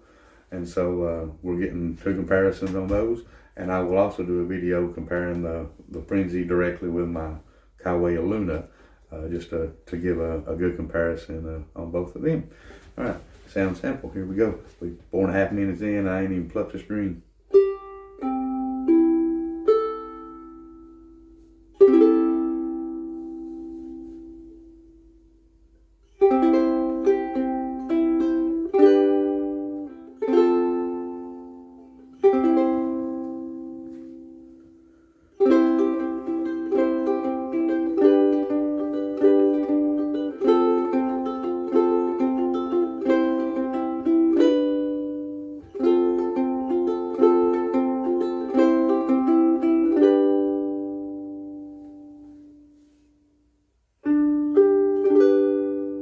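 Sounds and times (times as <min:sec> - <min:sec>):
ukulele chords and picked notes: 0:00.0 - 0:07.2, 0:14.3 - 0:56.0.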